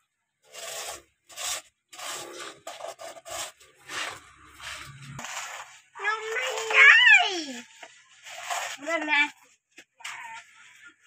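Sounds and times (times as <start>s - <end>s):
plastic toy truck scraping sand: 0.0s - 9.4s.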